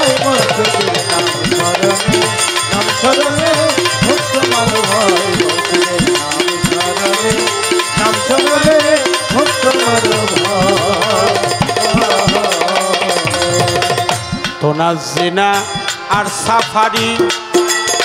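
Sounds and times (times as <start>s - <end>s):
wavering melody line: 0.0s - 14.7s
hand drums: 0.0s - 18.0s.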